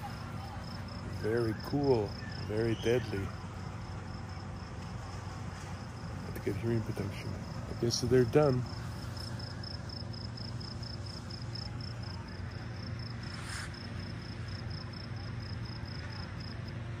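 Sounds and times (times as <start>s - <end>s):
cricket chirping: 0.0s - 17.0s
steady low hum: 0.0s - 17.0s.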